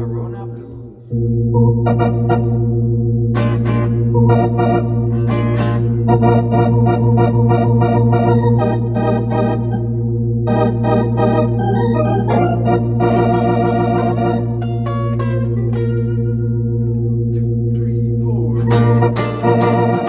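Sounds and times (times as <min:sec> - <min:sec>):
organ playing slow blues: 0:00.0 - 0:20.0
strummed guitar chords: 0:01.1 - 0:20.0.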